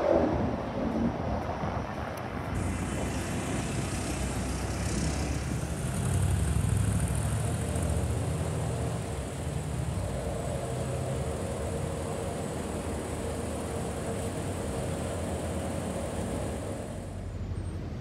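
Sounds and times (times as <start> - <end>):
car engine idling: 2.6 - 17.6.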